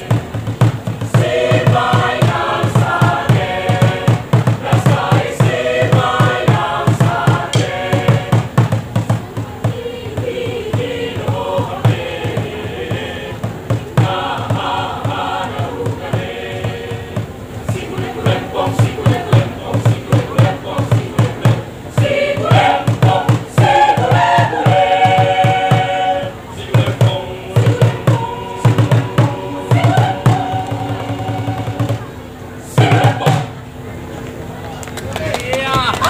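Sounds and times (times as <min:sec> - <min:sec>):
mixed choir singing: 0:00.0 - 0:33.9
low accompaniment beat: 0:00.0 - 0:34.0.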